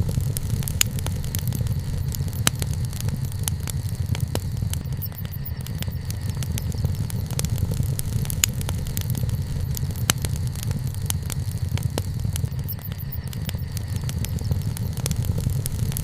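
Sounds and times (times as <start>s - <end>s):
campfire crackling: 0.0s - 16.0s
low rumble: 0.0s - 16.0s.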